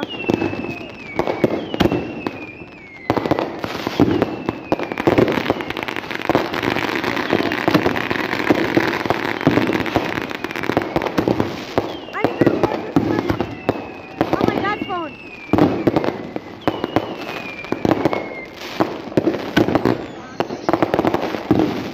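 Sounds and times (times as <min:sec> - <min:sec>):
falling firework whistles: 0:00.0 - 0:21.9
fireworks popping and crackling: 0:00.0 - 0:21.9.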